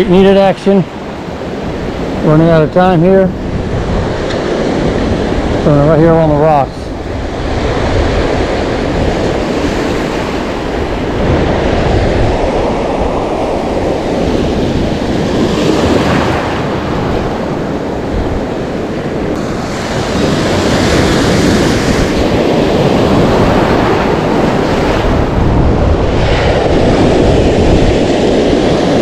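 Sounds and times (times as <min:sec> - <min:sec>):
ocean surf breaking: 0:00.0 - 0:29.0
wind rumbling on microphone: 0:00.0 - 0:29.0.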